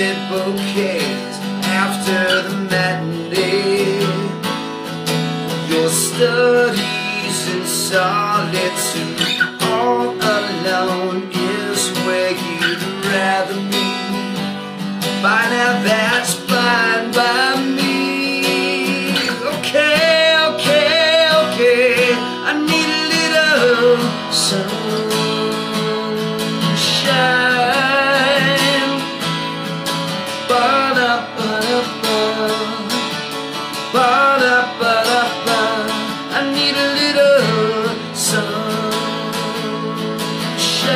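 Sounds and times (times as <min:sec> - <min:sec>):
acoustic guitar strumming: 0:00.0 - 0:40.9
man singing: 0:00.0 - 0:40.9.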